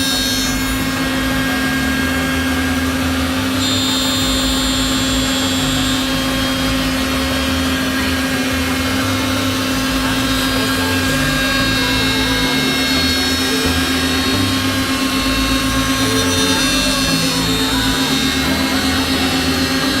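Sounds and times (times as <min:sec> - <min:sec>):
higher whine: 0:00.0 - 0:20.0
router spindle motors humming: 0:00.0 - 0:20.0.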